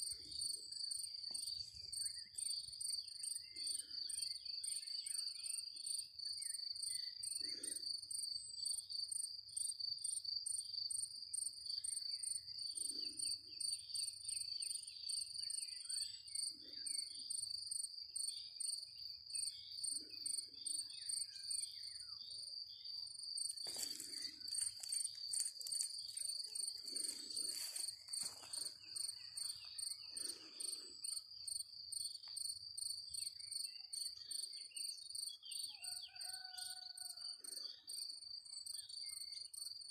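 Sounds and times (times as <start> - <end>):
crickets chirping: 0.0 - 39.9
faint birdsong: 0.0 - 39.9.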